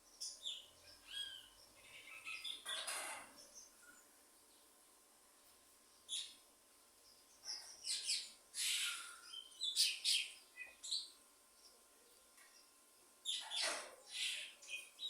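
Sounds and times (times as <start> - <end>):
birds singing and chirping: 0.0 - 4.7, 6.0 - 6.4, 7.0 - 15.0.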